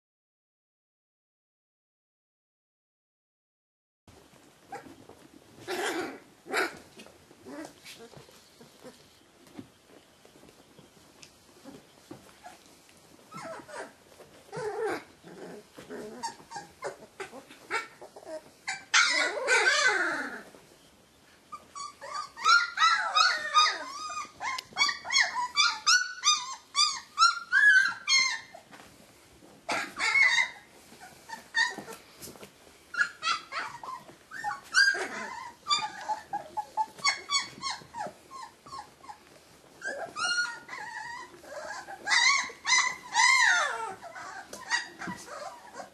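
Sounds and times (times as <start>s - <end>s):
puppies whining and yipping: 4.6s - 45.9s.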